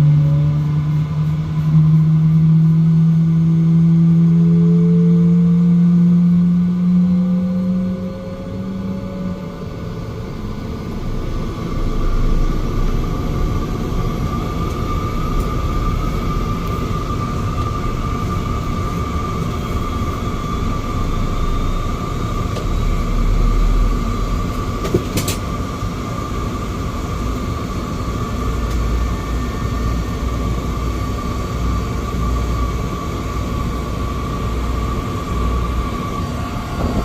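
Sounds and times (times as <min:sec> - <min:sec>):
turboprop engine cabin rumble: 0:00.0 - 0:37.0.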